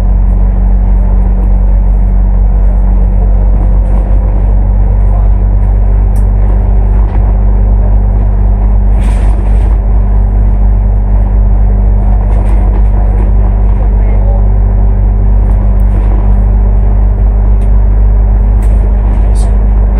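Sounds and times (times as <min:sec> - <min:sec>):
bus diesel engine humming: 0:00.0 - 0:19.9.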